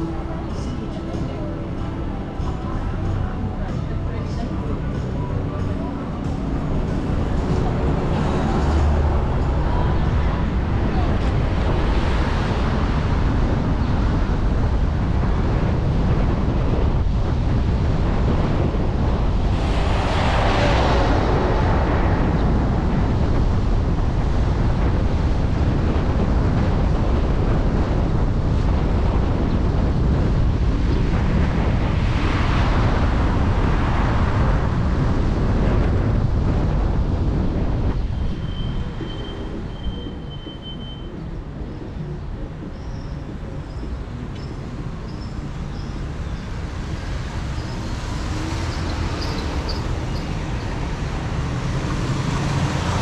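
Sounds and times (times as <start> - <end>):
car road noise: 0.0 - 53.0
wind rumble on microphone: 0.0 - 53.0.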